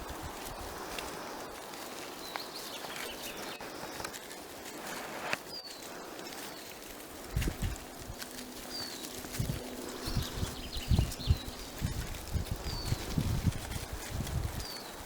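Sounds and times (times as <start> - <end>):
footsteps in forest litter: 0.0 - 15.0
twigs snapping: 0.0 - 15.0.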